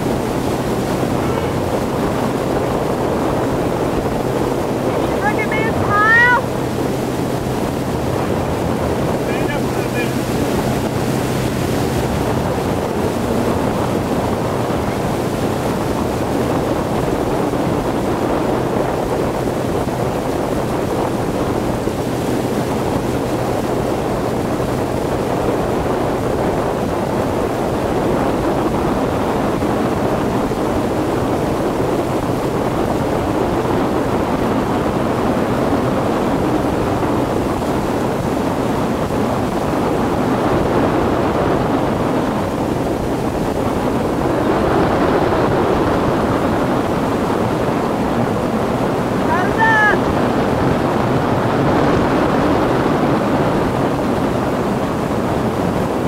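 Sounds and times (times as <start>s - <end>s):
boat engine hum: 0.0s - 56.0s
rushing water and spray: 0.0s - 56.0s
wind buffeting microphone: 0.0s - 56.0s.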